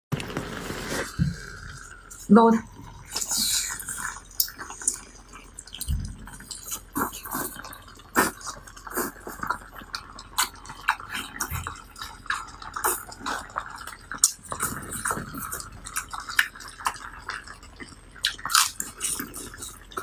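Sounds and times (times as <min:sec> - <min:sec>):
wet chewing and slurping: 0:00.2 - 0:20.0.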